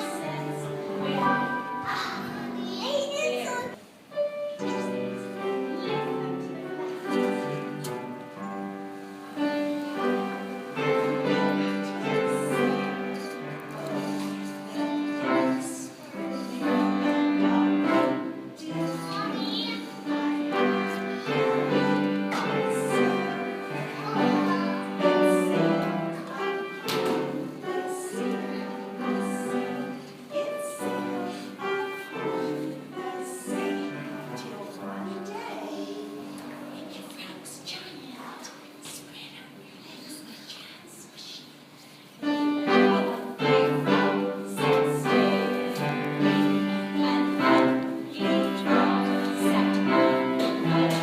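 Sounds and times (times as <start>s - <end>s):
classical music: 0.0s - 51.0s.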